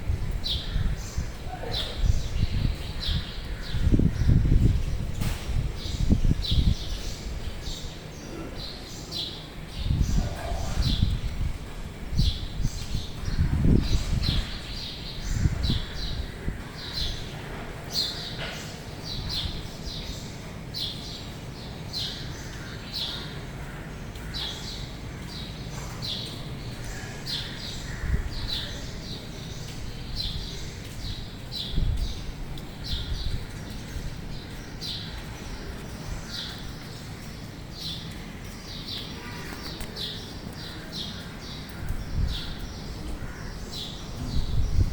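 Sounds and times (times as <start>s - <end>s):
birds chirping: 0.4s - 44.9s.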